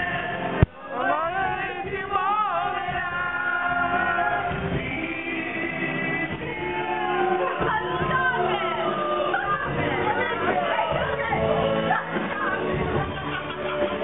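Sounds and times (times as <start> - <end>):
music with singing: 0.0 - 14.0.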